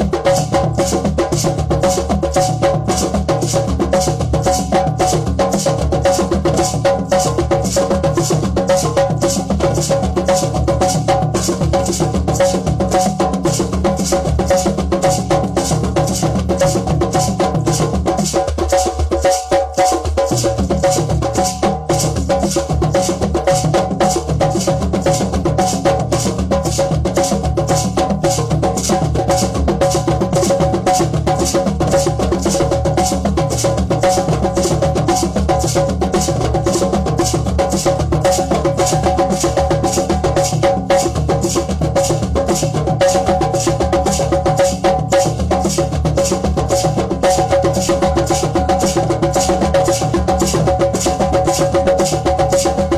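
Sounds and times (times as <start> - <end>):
hand drums playing fast groove: 0.0 - 52.9.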